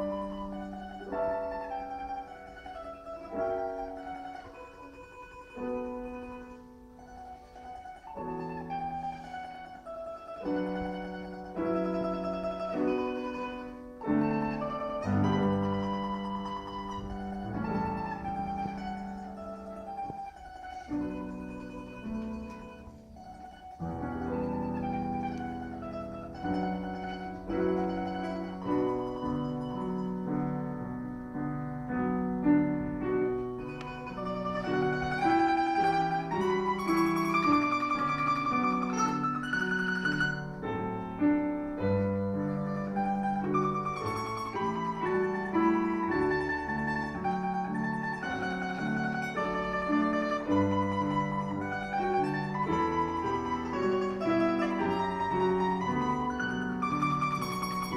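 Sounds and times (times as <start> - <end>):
domra plucked melody: 0.0 - 57.9
piano accompaniment: 0.0 - 57.9.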